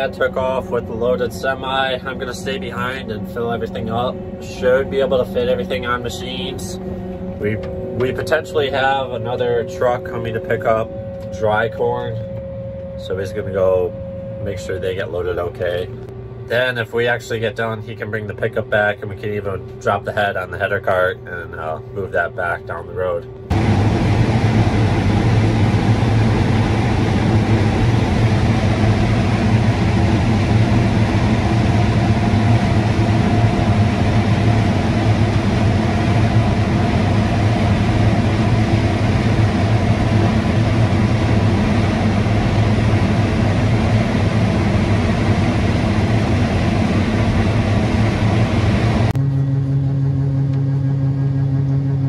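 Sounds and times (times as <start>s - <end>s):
combine harvester engine and machinery: 0.0s - 52.0s
steady clean hum: 0.0s - 52.0s.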